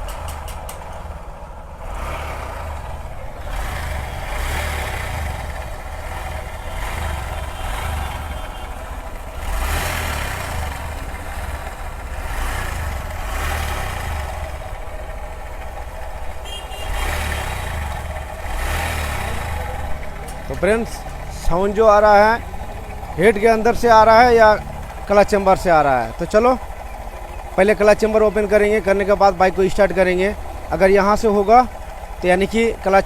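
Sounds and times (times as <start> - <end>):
abnormal engine noise: 0.0 - 33.0
motorcycle engine revving: 0.0 - 33.0.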